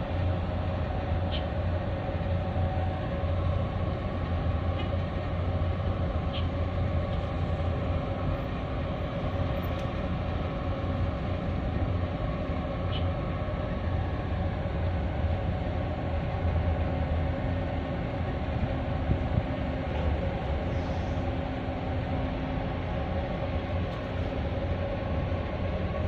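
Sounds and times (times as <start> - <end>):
ship engine rumble: 0.0 - 26.0
steady hum: 0.0 - 26.0.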